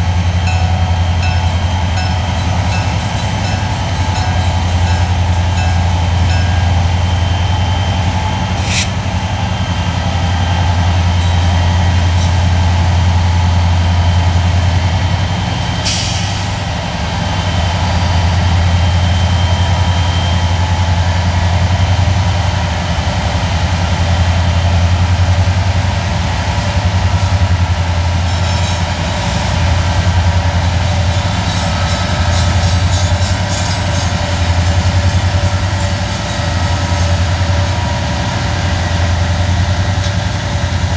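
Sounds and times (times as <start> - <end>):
locomotive engines droning: 0.0 - 40.9.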